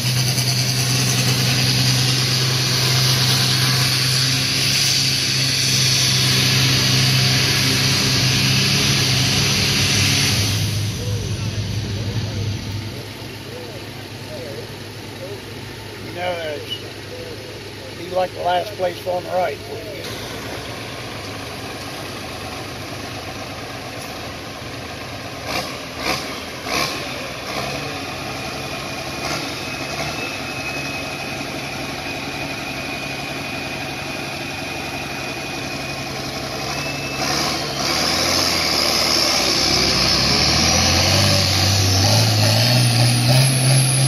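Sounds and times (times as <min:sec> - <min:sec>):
steady high whine: 0:00.0 - 0:25.4, 0:27.1 - 0:37.8
tractor engine: 0:00.0 - 0:44.0.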